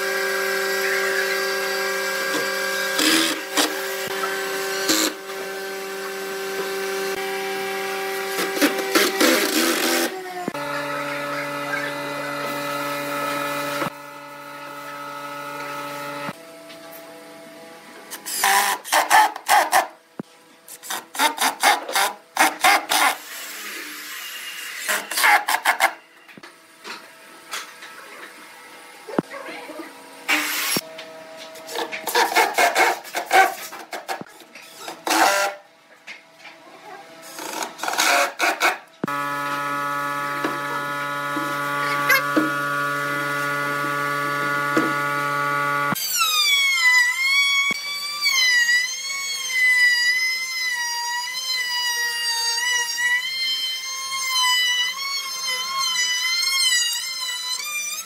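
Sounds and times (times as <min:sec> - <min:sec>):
electric router whining: 0:00.0 - 0:18.6, 0:22.3 - 0:32.1, 0:34.9 - 0:58.0.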